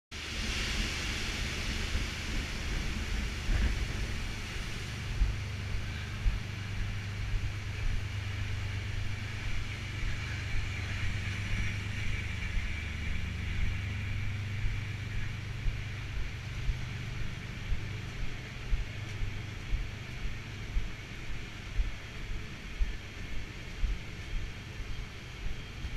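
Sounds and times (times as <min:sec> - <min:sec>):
low machinery hum: 0:00.1 - 0:25.9
footsteps on steel deck: 0:03.5 - 0:11.7, 0:12.5 - 0:25.7.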